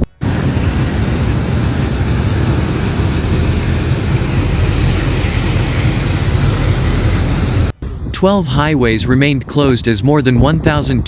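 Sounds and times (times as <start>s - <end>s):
steady rumbling hissing noise: 0.0s - 11.0s.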